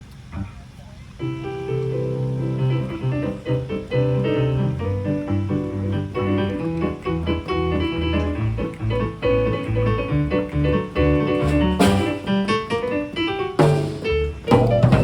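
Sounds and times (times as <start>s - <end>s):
piano chords and melody: 1.2s - 15.0s.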